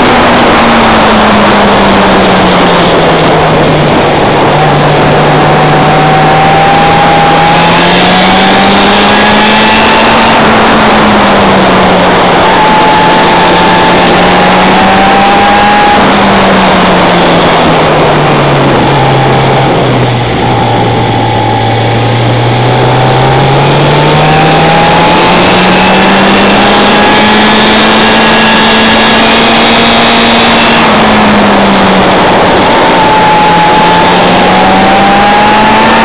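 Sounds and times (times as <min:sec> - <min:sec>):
race car engine: 0:00.0 - 0:36.0
wind rush on microphone: 0:00.0 - 0:36.0.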